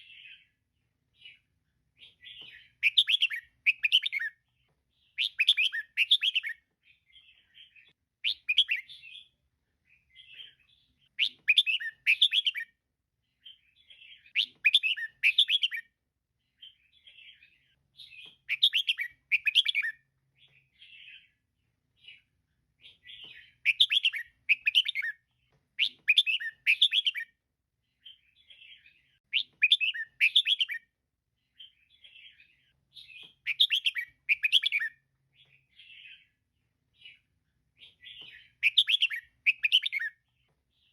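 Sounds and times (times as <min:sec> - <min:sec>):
soft bird twittering: 0:00.0 - 0:12.8, 0:13.4 - 0:21.4, 0:22.0 - 0:40.9
bird bright chirps: 0:00.0 - 0:40.9.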